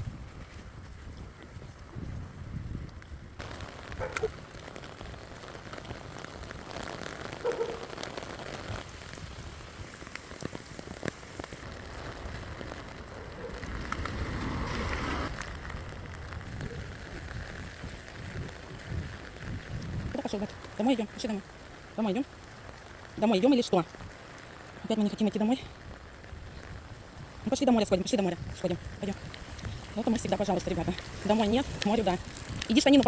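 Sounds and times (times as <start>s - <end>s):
heavy rain on pavement: 0.0s - 33.0s
sharp raindrop impacts: 0.0s - 33.0s.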